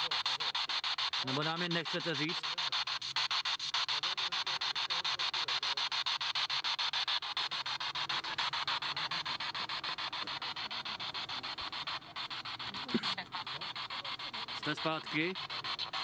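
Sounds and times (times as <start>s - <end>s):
radio sweeping choppy hiss: 0.0s - 16.0s.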